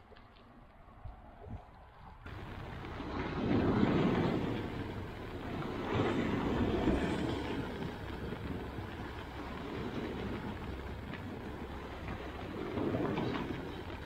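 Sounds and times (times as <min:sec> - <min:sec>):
waves washing over rocky beach: 0:02.3 - 0:14.0.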